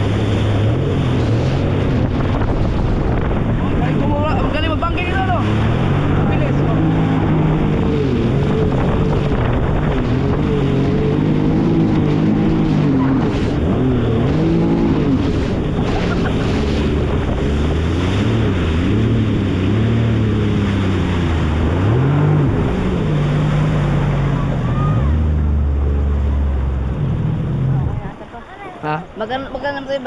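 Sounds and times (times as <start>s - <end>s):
wind buffeting microphone: 0.0s - 28.3s
watercraft engine revving: 0.0s - 30.0s.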